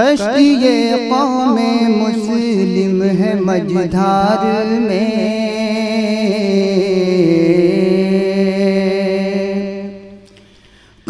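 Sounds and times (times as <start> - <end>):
man singing a long note: 0.0 - 10.2.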